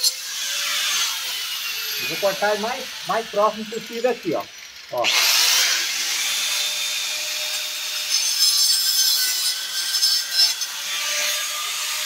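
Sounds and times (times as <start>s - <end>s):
angle grinder cutting pipe: 0.0s - 12.0s.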